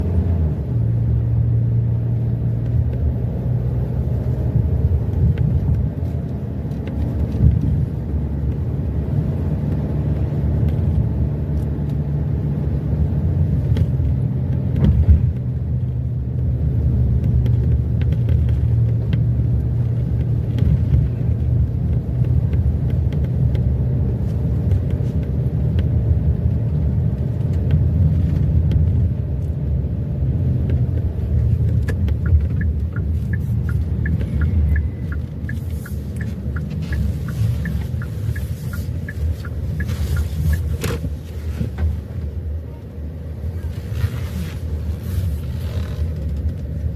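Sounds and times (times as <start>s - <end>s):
car driving rumble: 0.0s - 46.9s
irregular clicking in car cabin: 1.6s - 46.9s.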